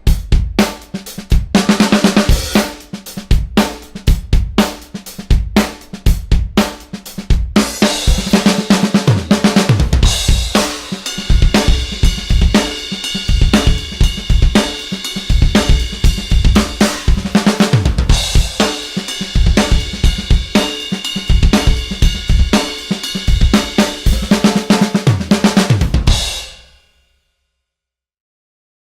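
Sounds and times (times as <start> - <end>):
bass drum: 0.0 - 26.6
snare drum: 0.0 - 26.7.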